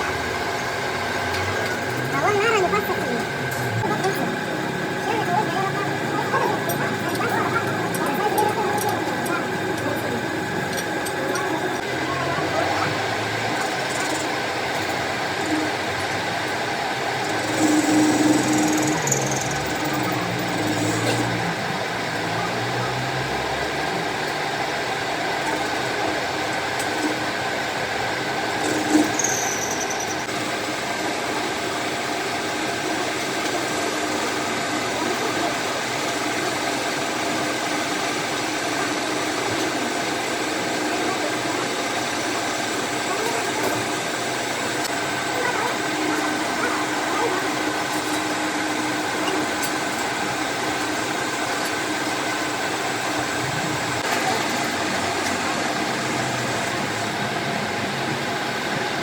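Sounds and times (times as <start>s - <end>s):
workshop machinery humming: 0.0s - 59.0s.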